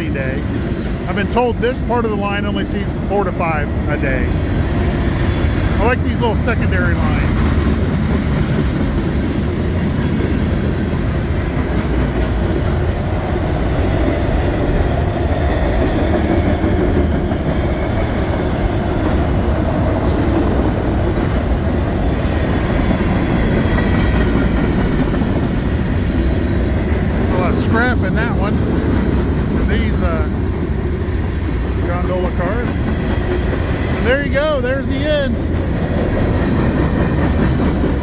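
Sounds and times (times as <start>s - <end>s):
steel wheels rumbling on rail: 0.0s - 38.0s.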